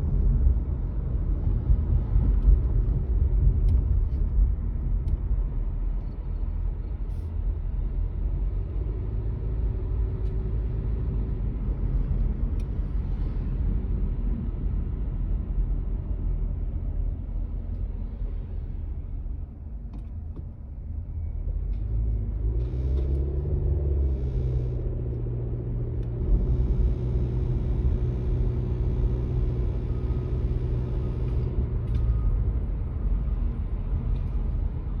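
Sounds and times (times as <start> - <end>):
car engine rumbling: 0.0 - 35.0.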